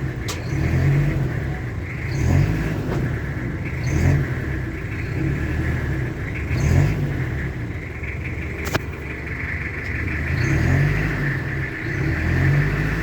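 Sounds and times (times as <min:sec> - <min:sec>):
engine revving lightly: 0:00.0 - 0:13.0.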